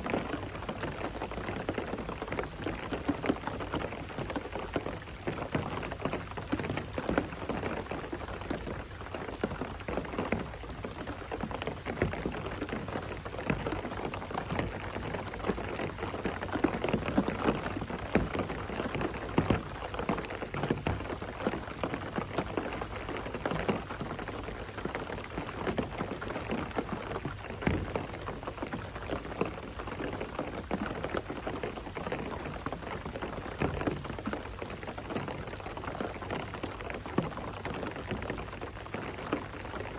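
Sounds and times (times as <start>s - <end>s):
rain drops striking a surface: 0.0s - 39.9s.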